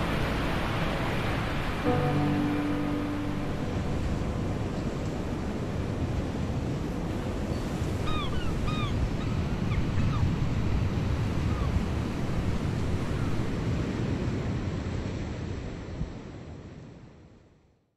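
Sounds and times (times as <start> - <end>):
ocean surf breaking: 0.0 - 15.9.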